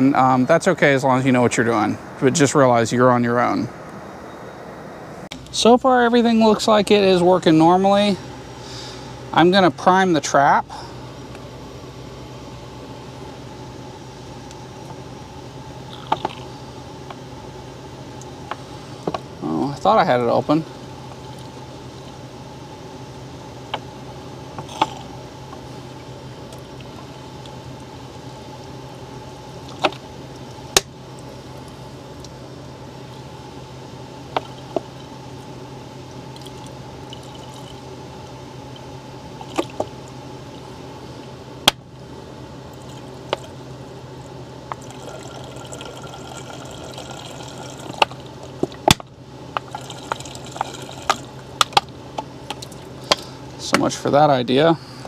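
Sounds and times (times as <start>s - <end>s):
air handler humming: 0.0s - 55.0s.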